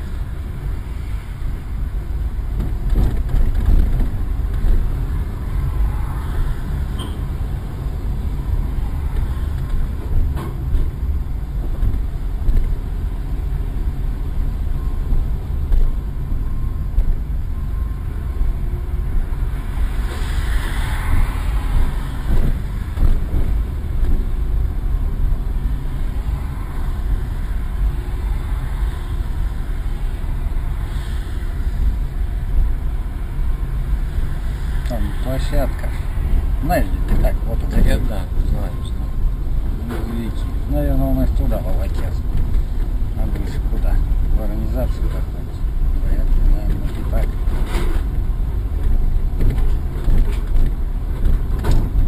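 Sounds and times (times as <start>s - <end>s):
car cabin road rumble: 0.0s - 52.0s.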